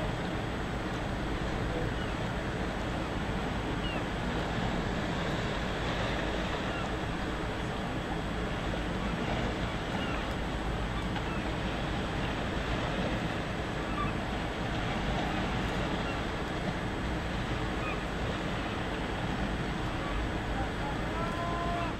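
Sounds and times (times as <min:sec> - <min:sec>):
sea: 0:00.0 - 0:21.9
wind: 0:00.0 - 0:21.9.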